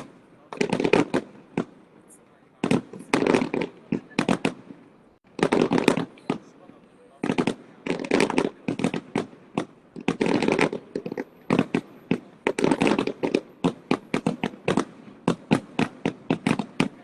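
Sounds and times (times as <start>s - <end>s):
fireworks crackling: 0.0s - 17.0s
fireworks sharp bangs: 0.0s - 17.0s.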